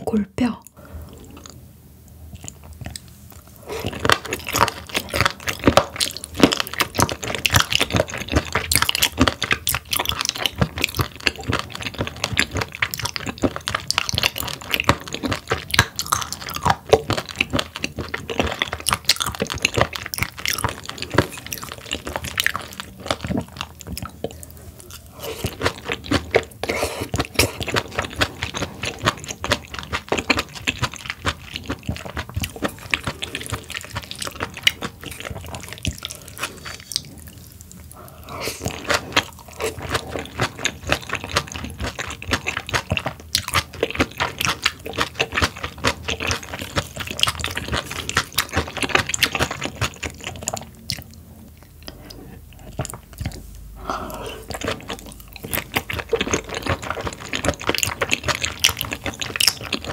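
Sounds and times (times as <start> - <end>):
wet crunchy chewing: 2.3 - 59.9.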